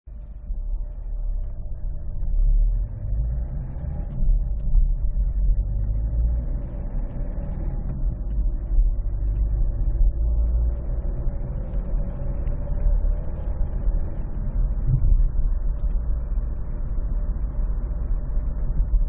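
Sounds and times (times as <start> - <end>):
diesel engine low rumble: 0.1 - 19.0
faint steady tone: 0.1 - 19.0.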